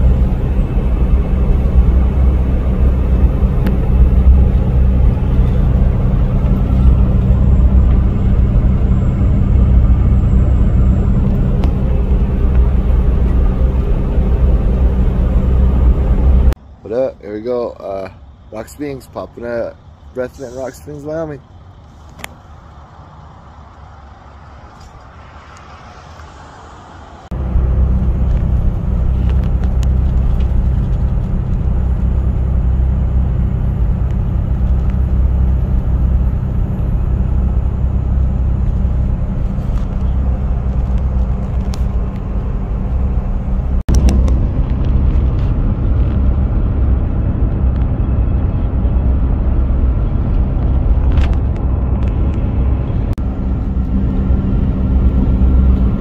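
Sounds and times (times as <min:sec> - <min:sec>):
vehicle engine and road drone: 0:00.0 - 0:56.0.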